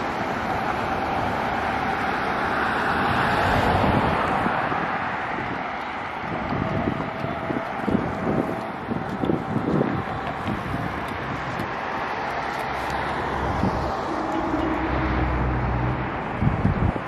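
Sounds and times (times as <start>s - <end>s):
road traffic: 0.0s - 17.0s
vehicle engine hum: 0.0s - 17.0s
wind buffeting microphone: 2.8s - 17.0s.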